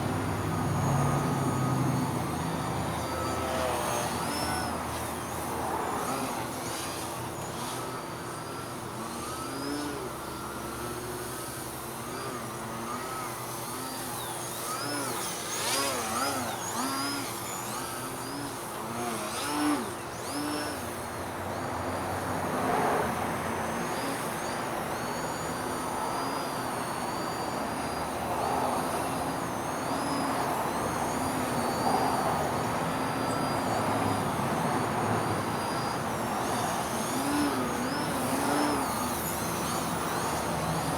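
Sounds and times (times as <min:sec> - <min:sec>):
model plane motor whining: 0:00.0 - 0:40.9.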